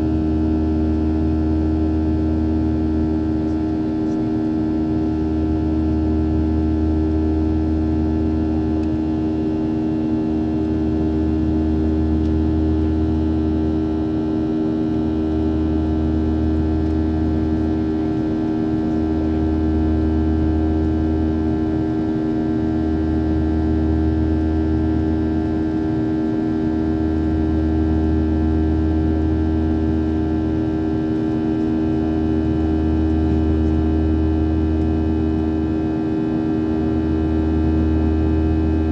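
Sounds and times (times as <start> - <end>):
jet engine cabin drone: 0.0 - 38.9.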